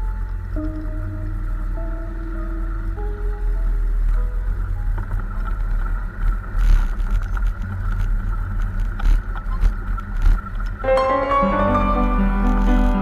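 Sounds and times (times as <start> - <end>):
motorbike engine rumble: 0.0 - 13.0
wind noise: 0.0 - 13.0.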